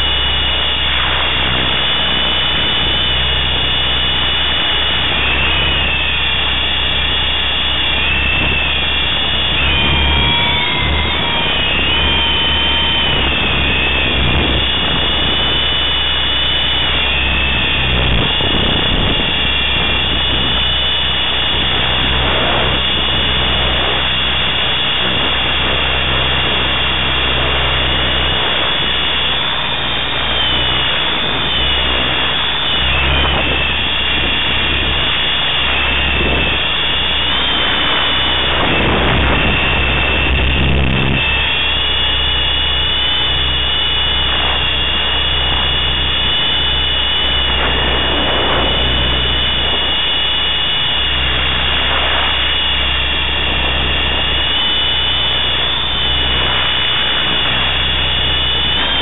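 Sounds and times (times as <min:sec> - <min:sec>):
helicopter rotor noise: 0:00.0 - 0:59.0
low hum: 0:00.0 - 0:59.0
rc helicopter motor whine: 0:00.0 - 0:59.0.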